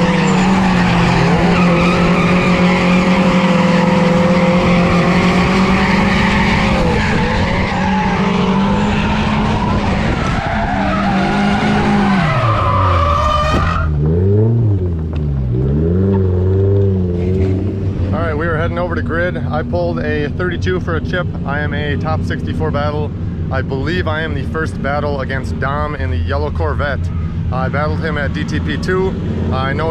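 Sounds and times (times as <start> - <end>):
car engine revving: 0.0 - 29.9
tires squealing: 0.0 - 29.9.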